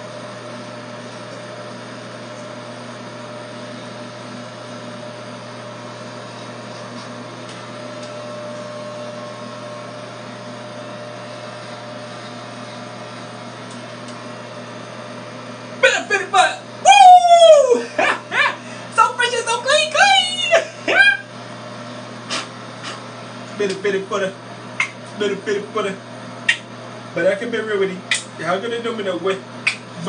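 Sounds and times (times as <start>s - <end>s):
electric hair clippers buzzing: 0.0s - 16.8s, 17.7s - 30.0s.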